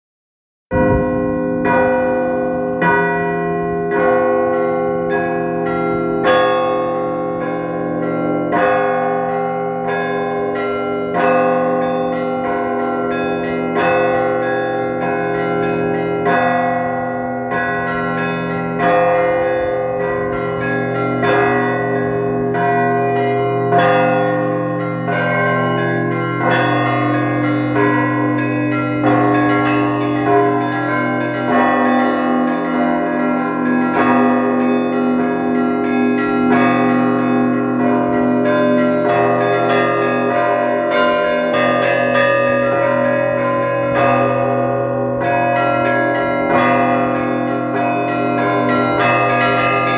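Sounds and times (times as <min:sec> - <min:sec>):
church bells pealing: 0:00.7 - 0:49.9.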